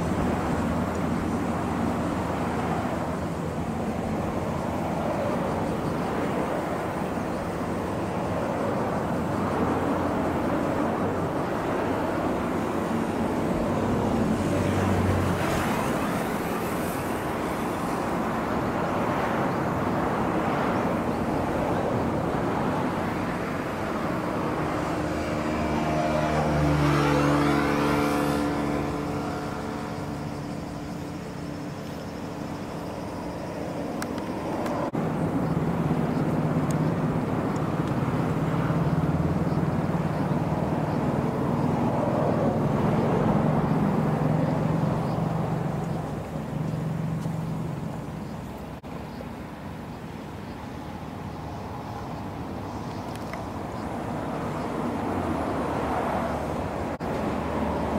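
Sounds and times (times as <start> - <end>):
vehicle engine passing close: 0.0 - 48.8
road traffic rushing past: 0.0 - 57.9.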